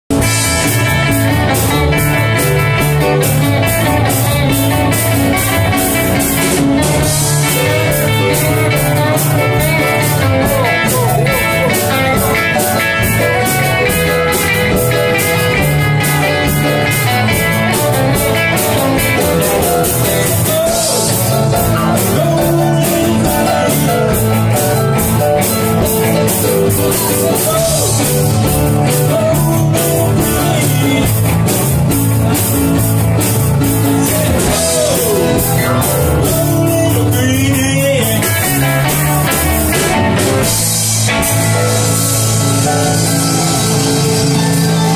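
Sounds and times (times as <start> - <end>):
drum kit beat: 0.1 - 44.9
electric guitar: 0.1 - 44.9.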